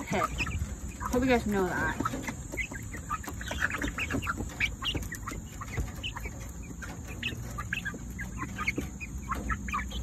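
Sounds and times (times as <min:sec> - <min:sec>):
chicks cheeping: 0:00.0 - 0:10.0.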